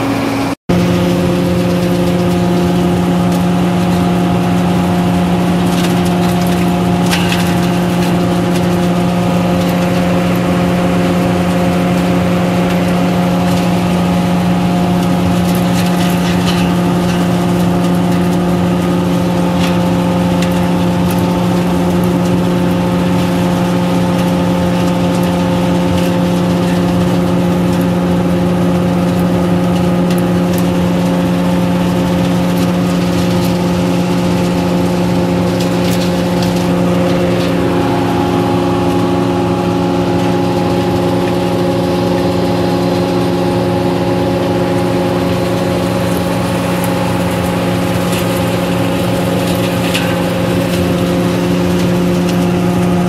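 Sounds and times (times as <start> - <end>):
harvester engine hum: 0.0 - 53.0.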